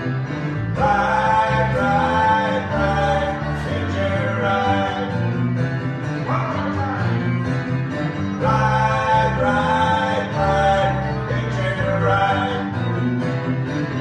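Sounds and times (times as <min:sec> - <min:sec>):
guitar: 0:00.0 - 0:14.0
steady bass notes: 0:00.0 - 0:14.0.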